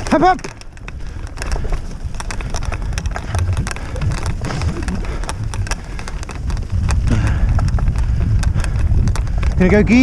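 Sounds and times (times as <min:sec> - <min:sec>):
crackling clicks: 0:00.0 - 0:10.0
wind buffeting camera: 0:00.0 - 0:10.0.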